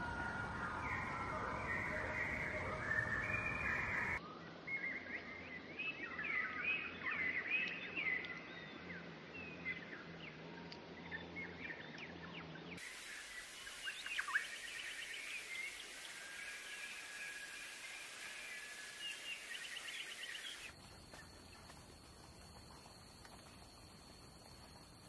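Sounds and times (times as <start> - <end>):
birdsong with rapid trills: 0.0 - 23.2
songbirds chirping and warbling: 0.0 - 25.0.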